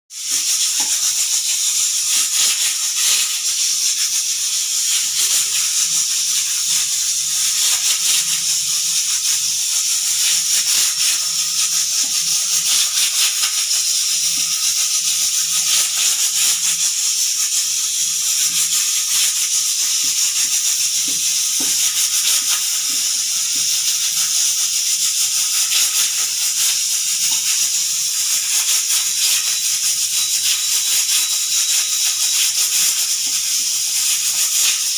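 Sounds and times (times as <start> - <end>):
pressure cooker hissing and rattling: 0.1 - 34.9.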